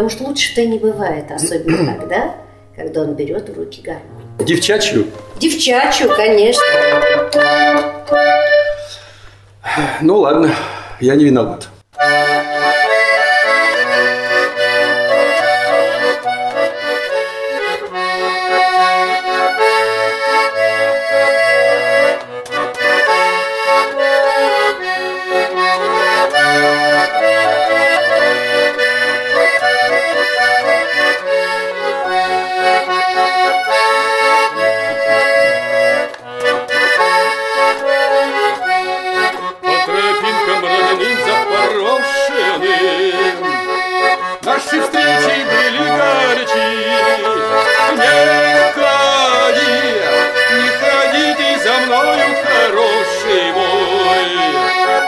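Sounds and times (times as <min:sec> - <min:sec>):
button accordion playing melody: 0:01.0 - 0:02.7, 0:04.1 - 0:09.6, 0:11.9 - 0:55.0.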